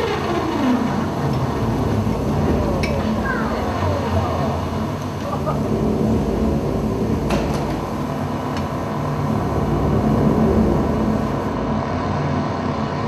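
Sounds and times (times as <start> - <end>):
droning ambient music: 0.0 - 13.0.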